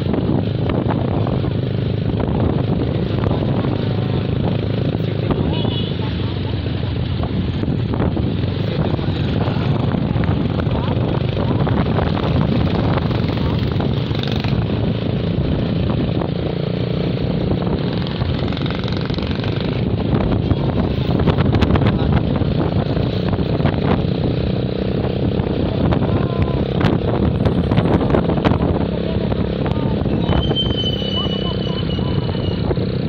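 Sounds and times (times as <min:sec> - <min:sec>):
motorcycle engine: 0:00.0 - 0:33.0
road noise: 0:00.0 - 0:33.0.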